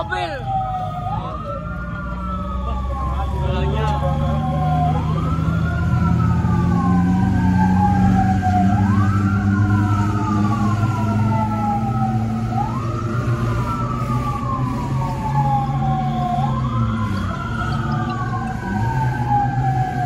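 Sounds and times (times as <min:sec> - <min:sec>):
fire engine siren wailing: 0:00.0 - 0:20.0
vehicle engine drone: 0:00.0 - 0:20.0.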